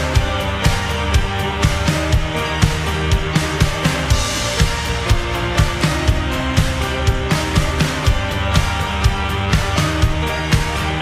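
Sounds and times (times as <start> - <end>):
rock band playing: 0.0 - 11.0
steady drum beat: 0.0 - 11.0.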